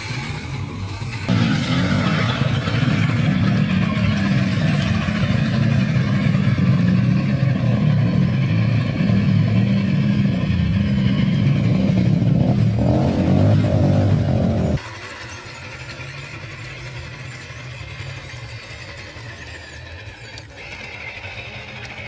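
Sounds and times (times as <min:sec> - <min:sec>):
motor running with pulsing drone: 0:00.0 - 0:22.0.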